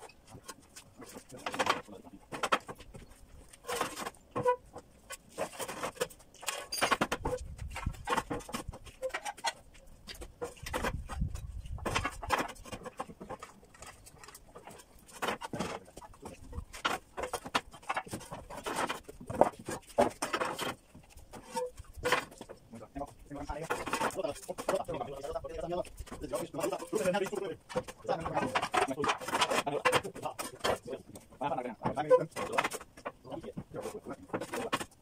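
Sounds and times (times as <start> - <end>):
roof tiles knocking and clattering: 0.0 - 35.0.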